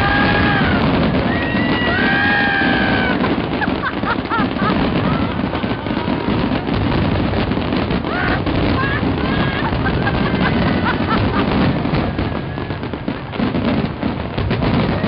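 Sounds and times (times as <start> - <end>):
fireworks bursting and crackling: 0.0 - 15.0
whistling fireworks: 0.0 - 15.0.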